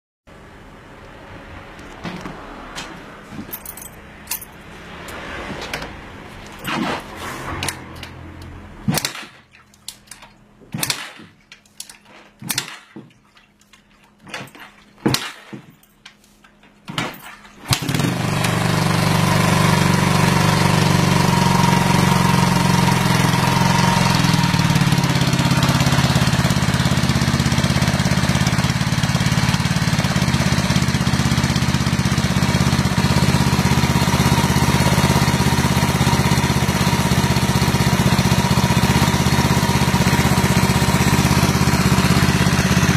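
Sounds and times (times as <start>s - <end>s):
engine running: 0.3s - 15.2s, 17.6s - 42.9s.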